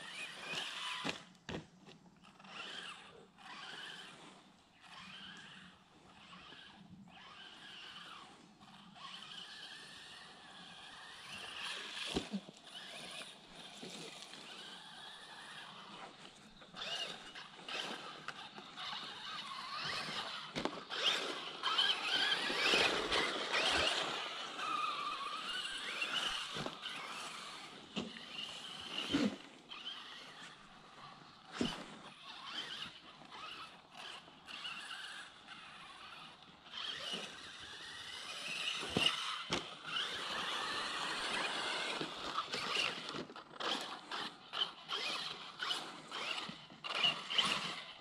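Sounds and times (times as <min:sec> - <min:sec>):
rc truck motor whining: 0:00.0 - 0:48.0
tyres on dirt: 0:00.0 - 0:48.0.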